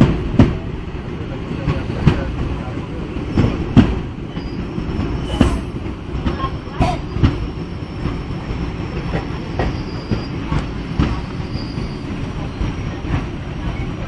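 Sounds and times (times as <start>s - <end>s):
train wheels rumbling on rail: 0.0s - 14.0s
wheels clacking over rail joints: 0.0s - 14.0s.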